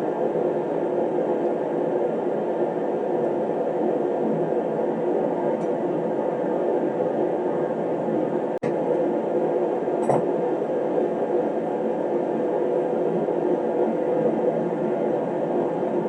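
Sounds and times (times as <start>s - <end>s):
heater blowing hum: 0.0s - 16.0s.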